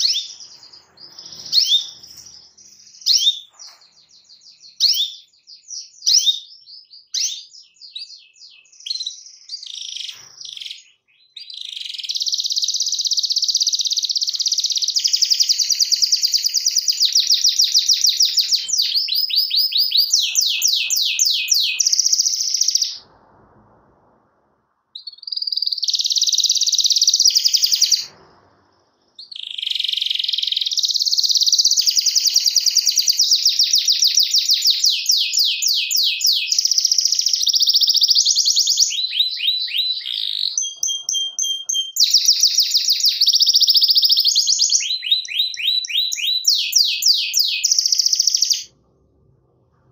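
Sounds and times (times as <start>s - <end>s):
canary singing trills: 0.0s - 23.0s, 24.9s - 28.2s, 29.2s - 48.8s.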